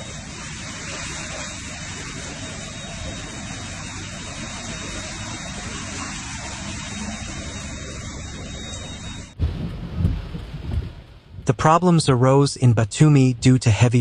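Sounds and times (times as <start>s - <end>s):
running water: 0.0s - 11.9s
heavy rain hissing: 0.0s - 12.5s.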